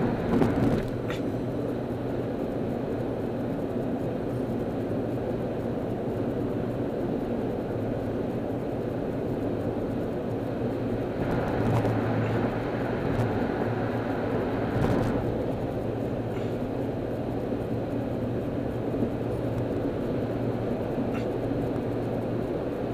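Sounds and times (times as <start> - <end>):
car cabin road and engine rumble: 0.0 - 22.9.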